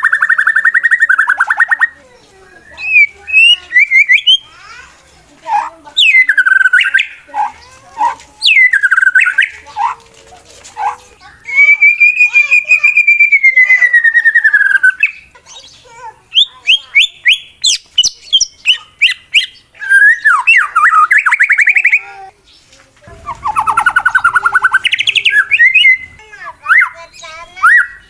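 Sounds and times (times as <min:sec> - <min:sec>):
bird singing varied song: 0:00.0 - 0:28.0.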